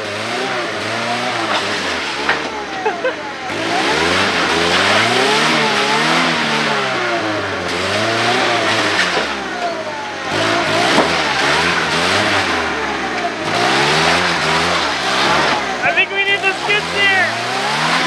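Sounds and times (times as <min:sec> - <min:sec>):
pickup truck engine revving: 0:00.0 - 0:18.0.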